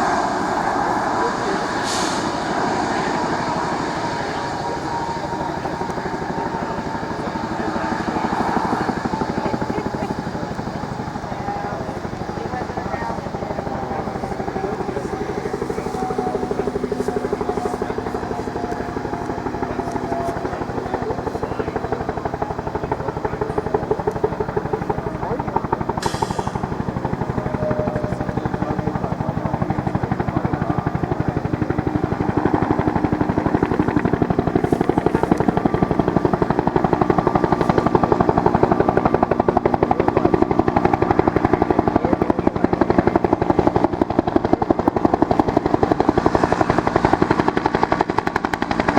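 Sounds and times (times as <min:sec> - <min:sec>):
helicopter rotor beating: 0:00.0 - 0:48.9
turbine whine: 0:00.0 - 0:48.9.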